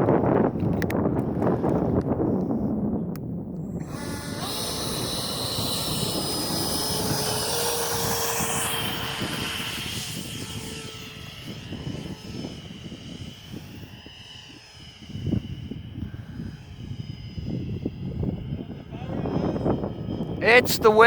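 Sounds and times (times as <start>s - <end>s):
model jet fans whining: 0.0s - 21.0s.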